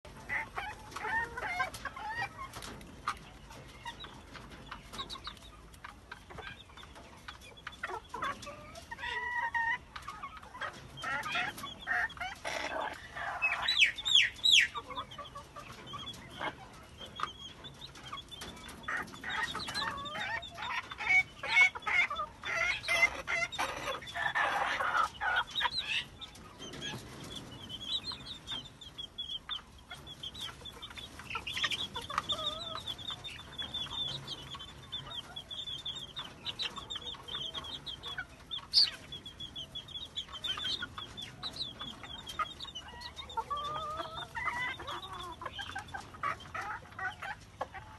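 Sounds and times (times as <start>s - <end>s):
chickens clucking: 0.0s - 47.9s
chicks peeping: 0.0s - 47.9s.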